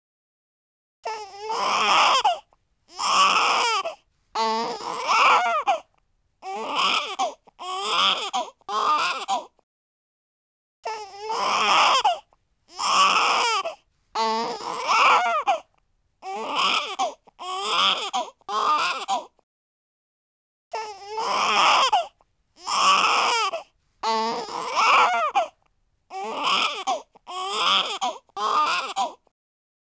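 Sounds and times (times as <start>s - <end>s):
baby crying: 1.0s - 9.6s, 10.8s - 19.4s, 20.7s - 29.3s.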